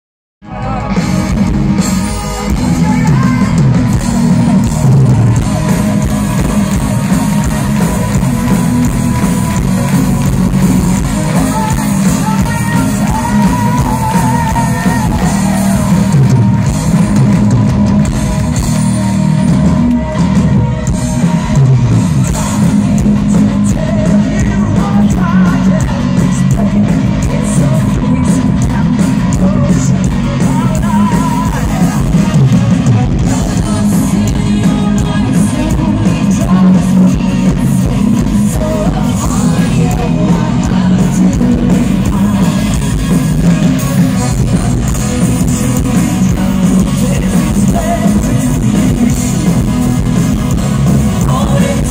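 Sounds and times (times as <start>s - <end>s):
person singing: 0.4s - 17.6s, 18.5s - 51.9s
drums: 0.4s - 51.9s
electric guitars: 0.4s - 51.9s
metal band playing live: 0.4s - 51.9s.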